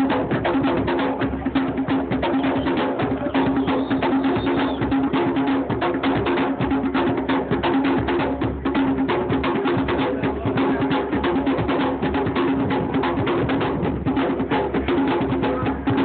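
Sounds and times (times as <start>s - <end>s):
hand drums slapped: 0.0s - 16.0s.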